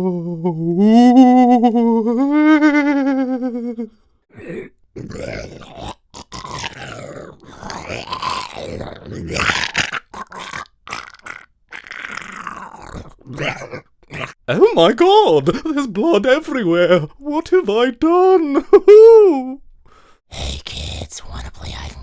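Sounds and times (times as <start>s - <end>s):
man making monster sounds: 0.0s - 19.6s.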